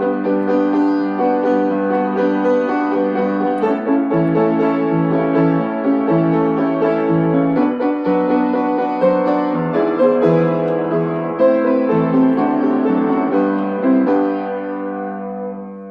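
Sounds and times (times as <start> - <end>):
slow keyboard melody: 0.0 - 15.9.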